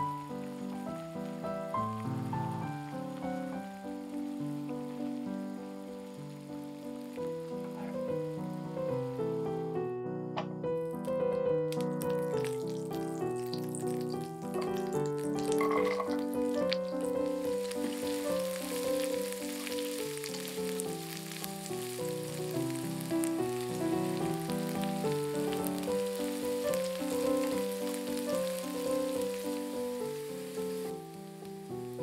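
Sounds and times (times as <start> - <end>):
butter and chilies sizzling in a pan: 0.0 - 9.4, 11.0 - 32.0
background music with simple melody: 0.0 - 32.0.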